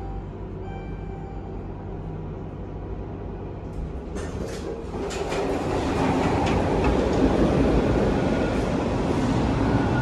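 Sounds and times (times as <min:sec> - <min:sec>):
subway train rumbling: 0:00.0 - 0:10.0.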